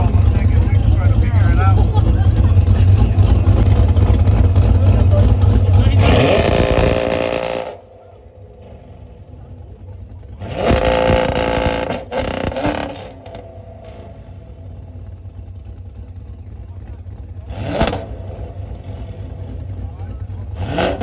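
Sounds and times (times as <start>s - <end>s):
car engine revving: 0.0s - 21.0s
car engine rumbling: 0.0s - 21.0s
exhaust crack: 0.0s - 21.0s.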